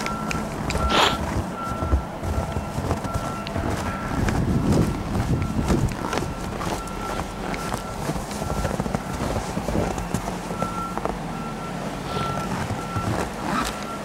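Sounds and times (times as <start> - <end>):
footsteps crunching in snow: 0.0 - 11.4, 12.0 - 14.0
low rumble of traffic: 0.0 - 14.0
vehicle reversing alarm beeping: 0.0 - 14.0.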